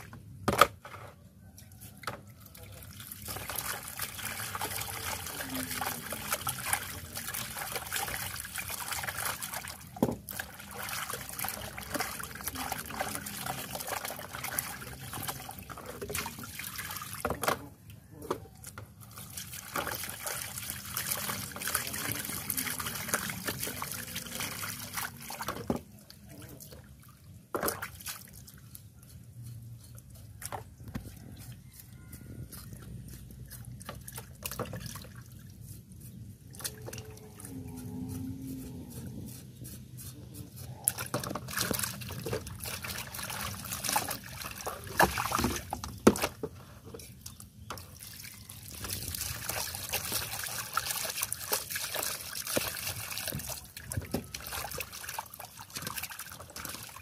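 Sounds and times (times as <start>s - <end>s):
water trickling and dripping: 2.4s - 39.6s, 46.9s - 57.0s.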